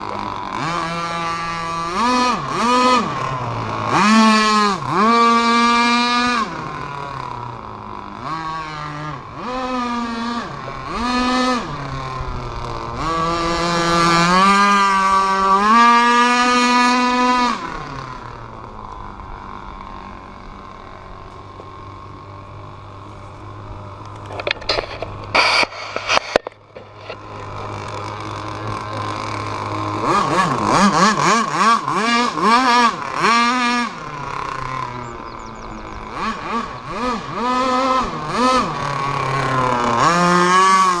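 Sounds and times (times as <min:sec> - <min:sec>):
two-stroke boat engine revving: 0:00.0 - 0:41.0.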